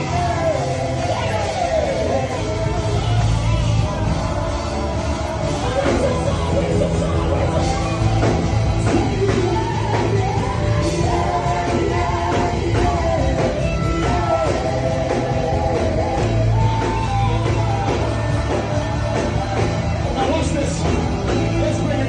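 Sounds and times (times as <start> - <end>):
instrumental backing with strong bass: 0.0 - 22.0
voices singing worship music: 0.0 - 22.0.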